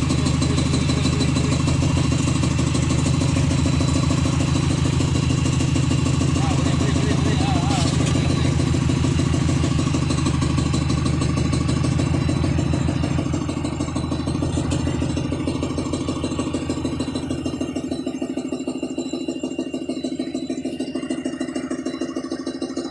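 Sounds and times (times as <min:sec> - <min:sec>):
engine idling: 0:00.0 - 0:22.9.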